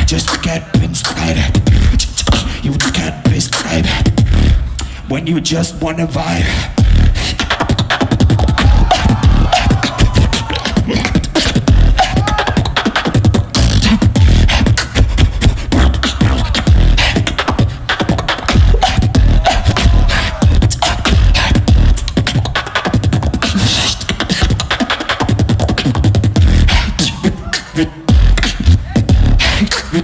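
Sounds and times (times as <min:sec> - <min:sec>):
beatboxing into a microphone: 0:00.0 - 0:30.0.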